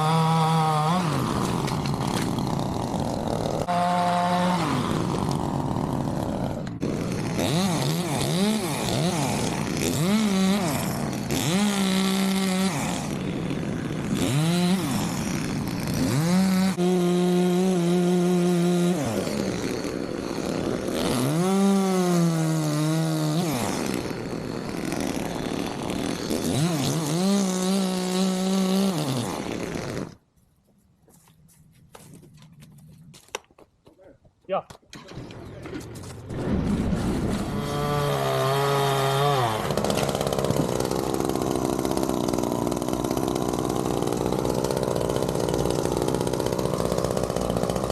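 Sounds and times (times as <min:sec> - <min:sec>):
chainsaw cutting wood: 0:00.0 - 0:30.3, 0:35.0 - 0:47.9.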